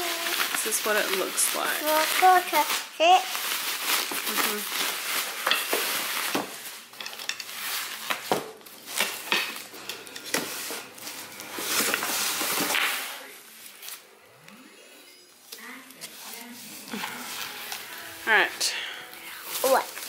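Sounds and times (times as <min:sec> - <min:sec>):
plastic wrapping rustling: 0:00.0 - 0:14.4, 0:15.4 - 0:20.0.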